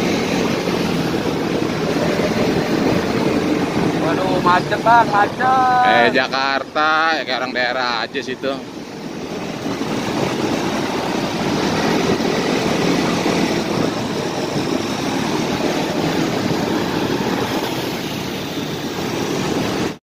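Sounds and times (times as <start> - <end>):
motorcycle engine and road noise: 0.0 - 20.0
surrounding traffic: 0.0 - 20.0.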